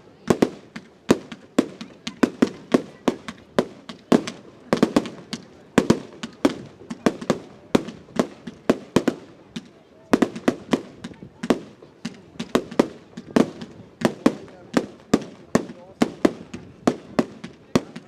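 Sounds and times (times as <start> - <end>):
fireworks bursting with echo: 0.0 - 18.0.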